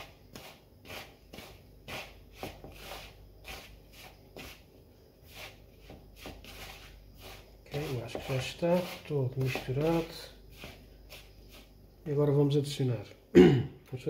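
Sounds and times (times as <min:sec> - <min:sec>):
fingertips rubbing flour in bowl: 0:00.0 - 0:11.8.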